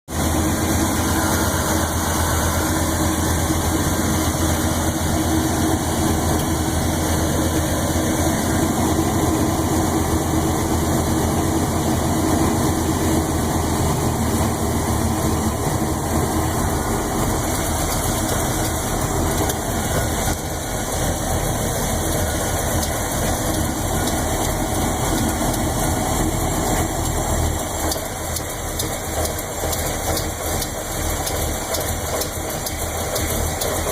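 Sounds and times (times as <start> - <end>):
car engine idling: 0.1 - 33.9
engine lifter ticking: 0.2 - 33.9.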